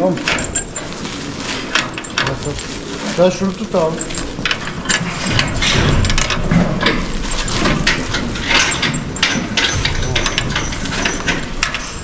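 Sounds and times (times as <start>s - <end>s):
rustles and knocks: 0.0s - 12.0s
scuffling and handling noise: 0.0s - 12.0s.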